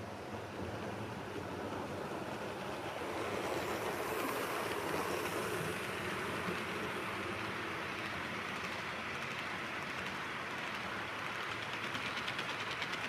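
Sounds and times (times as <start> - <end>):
model train rolling clatter: 0.4 - 13.0.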